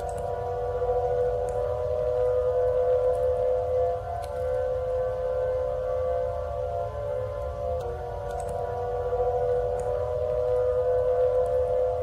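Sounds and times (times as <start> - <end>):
emergency alert alarm tone: 0.0 - 12.0
low rumble: 0.0 - 12.0.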